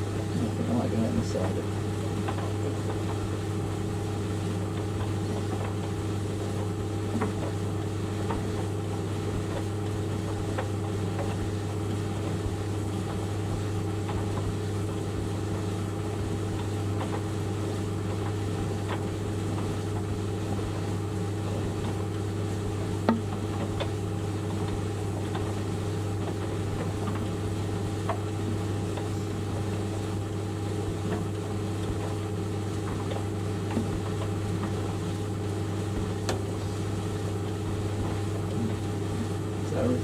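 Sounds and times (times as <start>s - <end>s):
tumble dryer motor hum: 0.0s - 40.0s.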